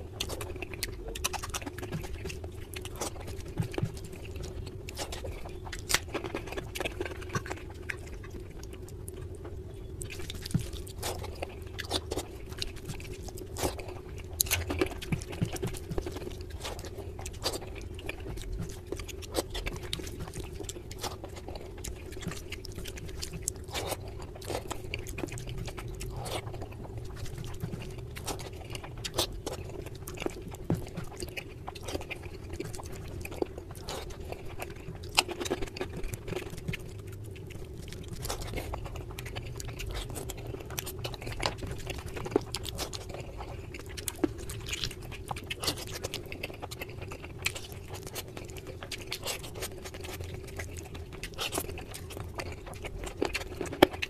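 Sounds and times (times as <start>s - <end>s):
faint steady hum: 0.0s - 54.0s
wet chewing and mouth sounds: 0.0s - 54.0s.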